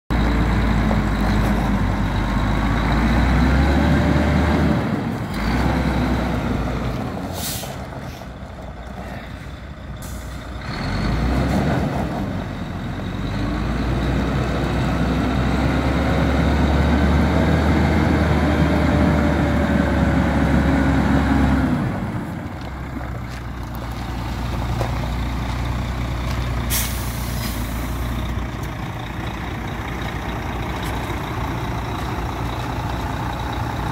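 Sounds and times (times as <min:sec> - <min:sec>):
diesel truck engine idling: 0:00.1 - 0:11.4, 0:12.2 - 0:33.9.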